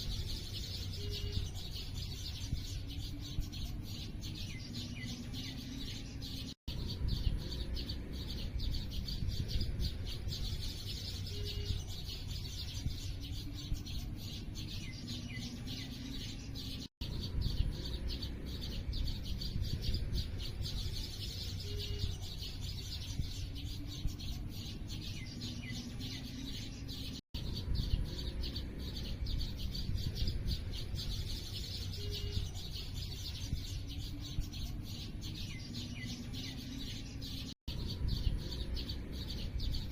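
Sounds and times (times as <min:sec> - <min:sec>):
low steady rumble: 0:00.0 - 0:39.9
small birds chirping: 0:00.0 - 0:39.9.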